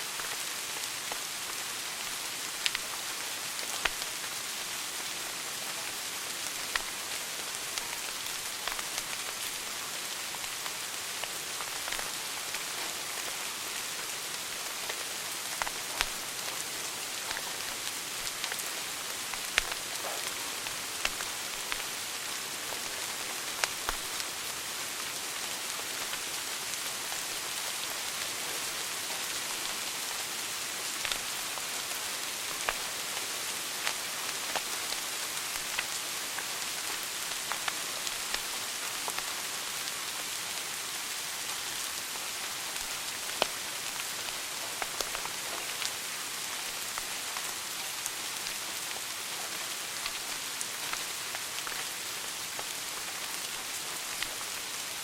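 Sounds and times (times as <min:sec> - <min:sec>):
fire crackles and pops: 0:00.1 - 0:40.5, 0:41.1 - 0:55.0.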